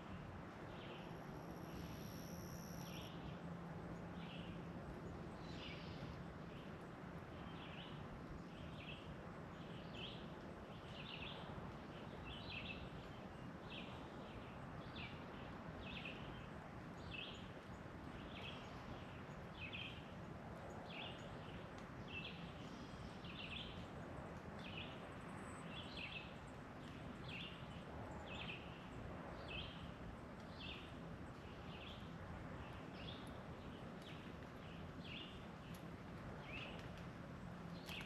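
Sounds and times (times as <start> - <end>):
outdoor ambient hiss: 0.0 - 38.0.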